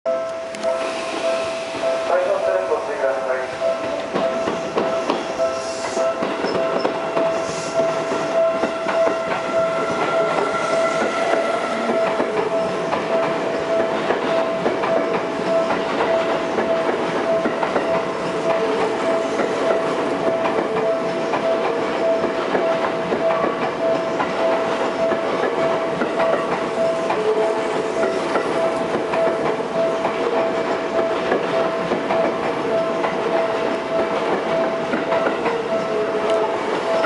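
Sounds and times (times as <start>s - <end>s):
steady train whine: 0.1s - 37.0s
train wheels clattering over joints: 1.8s - 37.0s.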